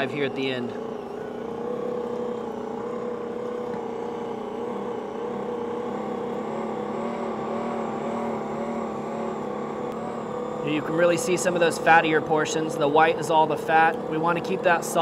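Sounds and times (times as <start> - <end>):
stand mixer motor hum: 0.0 - 15.0.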